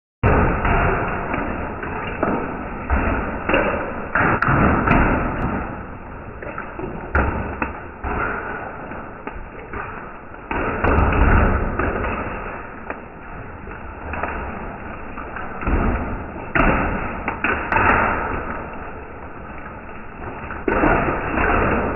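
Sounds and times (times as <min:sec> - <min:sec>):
slowed hail thumps on concrete: 0:00.2 - 0:21.9.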